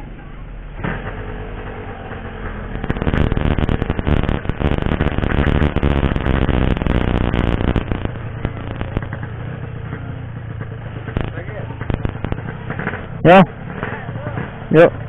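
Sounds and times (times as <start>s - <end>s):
rasping crackling exhaust: 0.0s - 15.0s
motorcycle engine revving: 0.7s - 15.0s.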